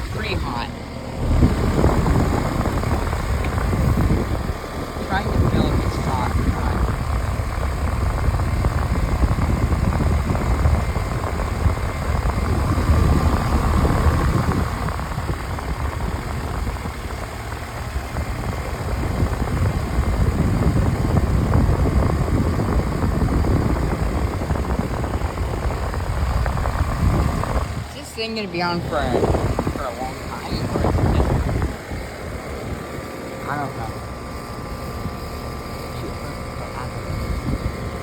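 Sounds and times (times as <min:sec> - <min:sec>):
air conditioner fan rushing: 0:00.0 - 0:38.0.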